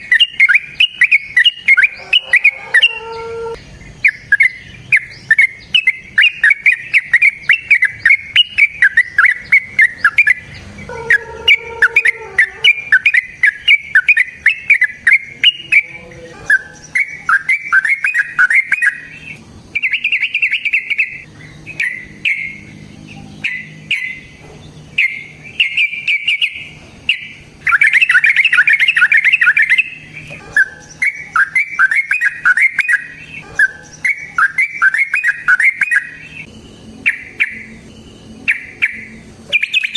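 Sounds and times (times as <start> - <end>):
lovebird chattering shrill chirps: 0.0 - 24.4, 25.0 - 39.9
lower bird call: 0.0 - 39.9.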